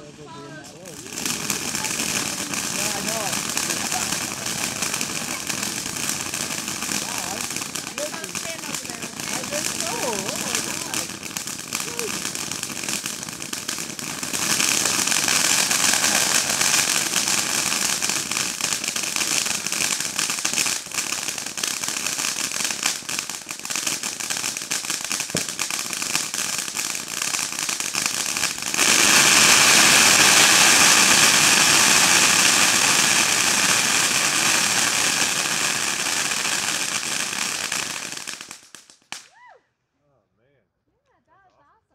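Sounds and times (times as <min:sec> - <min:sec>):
firework fountain hissing and crackling: 0:00.0 - 0:39.4.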